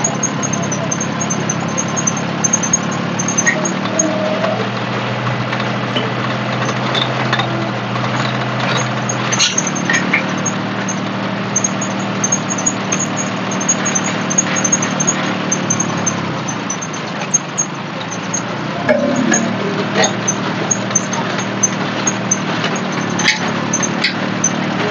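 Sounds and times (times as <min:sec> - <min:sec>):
diesel tractor engine idling: 0:00.0 - 0:24.9
small clicks: 0:00.0 - 0:24.9.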